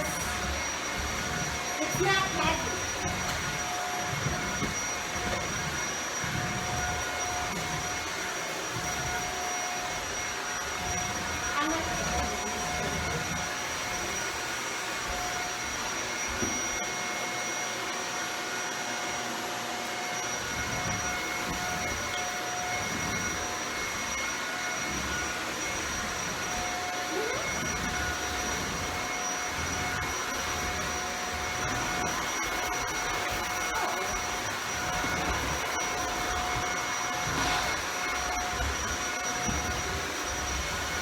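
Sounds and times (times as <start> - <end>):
vacuum cleaner running: 0.0 - 41.0.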